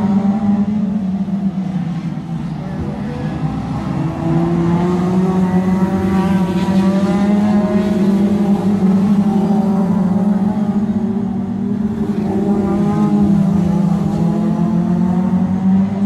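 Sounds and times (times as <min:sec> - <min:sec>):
race car engines running hard: 0:00.0 - 0:16.0
race car passing close: 0:00.0 - 0:16.0.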